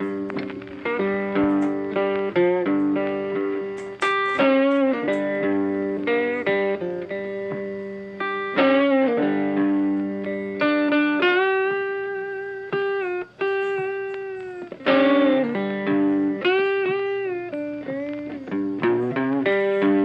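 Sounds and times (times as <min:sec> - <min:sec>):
slow guitar melody: 0:00.0 - 0:20.0.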